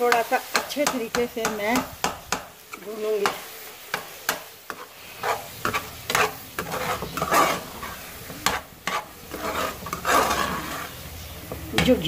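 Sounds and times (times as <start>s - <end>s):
food frying: 0.0s - 12.0s
metal spoon stirring and scraping: 0.0s - 12.0s.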